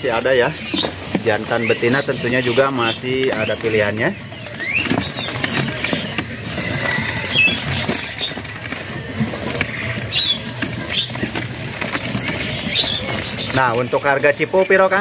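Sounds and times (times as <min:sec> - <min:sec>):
bird feet scrabbling on perch: 0:00.0 - 0:15.0
birds wings flapping in cage: 0:00.0 - 0:15.0.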